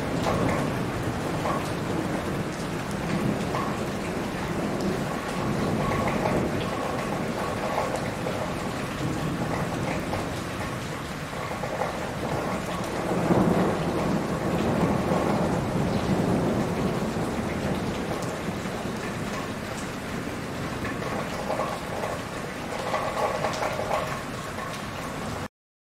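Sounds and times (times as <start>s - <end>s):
thunder rumbling: 0.0s - 24.7s
heavy rain pouring: 0.0s - 25.5s.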